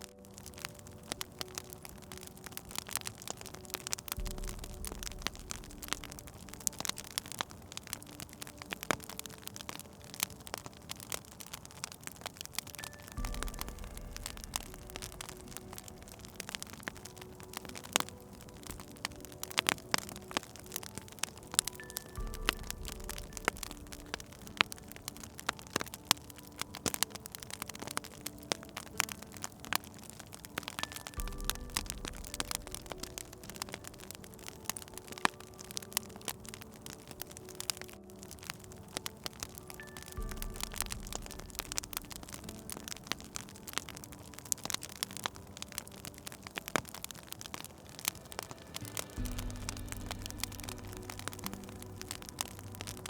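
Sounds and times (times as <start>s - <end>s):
soft steady hiss: 0.0s - 53.0s
wood fire crackling: 0.0s - 53.0s.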